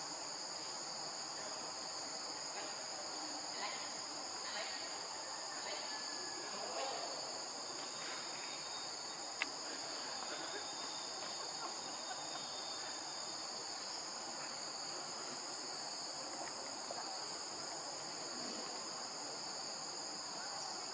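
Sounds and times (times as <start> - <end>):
insects droning: 0.0 - 20.9.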